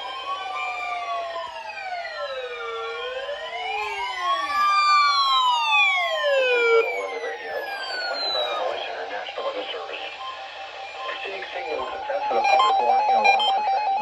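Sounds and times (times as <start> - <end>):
warning sirens wailing: 0.0 - 14.0.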